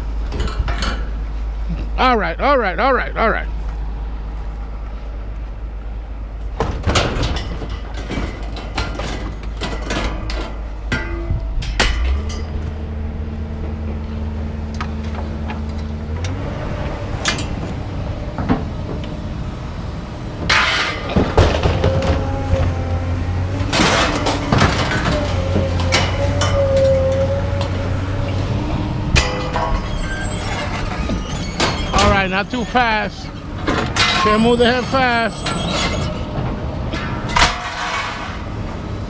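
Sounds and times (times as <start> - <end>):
scrap metal clanking and banging: 0.0 - 1.4, 6.4 - 14.3, 14.9 - 39.0
engine running: 0.0 - 39.0.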